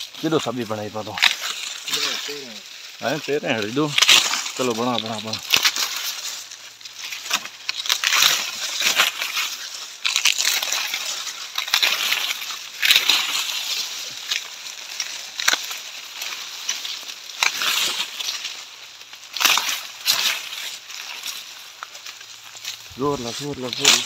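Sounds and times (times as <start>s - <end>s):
dry leaves crackling: 0.0s - 24.0s.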